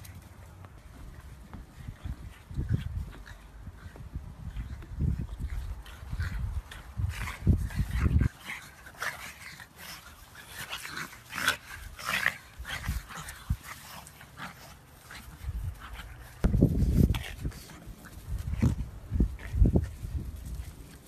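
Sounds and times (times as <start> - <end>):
dogs play-wrestling noises: 0.0 - 21.0.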